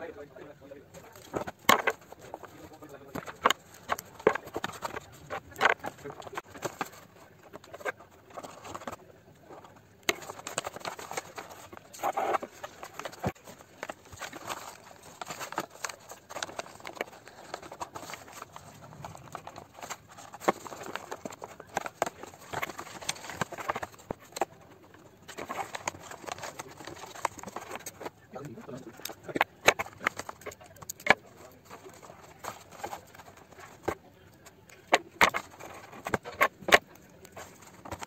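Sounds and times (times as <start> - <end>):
paper rustling and crinkling: 0.8 - 38.0.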